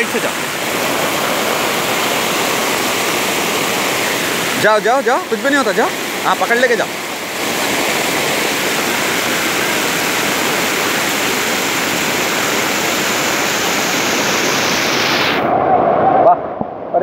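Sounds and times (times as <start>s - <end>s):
heavy rain: 0.0s - 15.5s
floodwater rushing: 0.0s - 16.3s.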